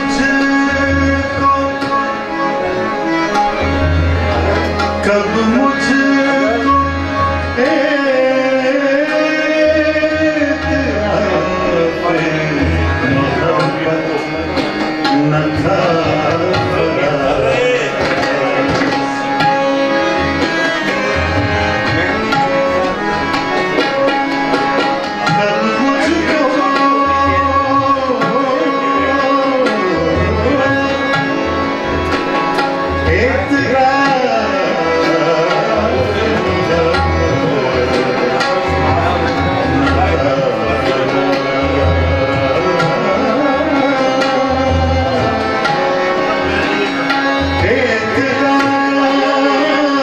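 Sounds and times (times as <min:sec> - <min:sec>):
harmonium chords: 0:00.0 - 0:50.0
man singing: 0:00.0 - 0:50.0
tabla drumming: 0:00.0 - 0:50.0.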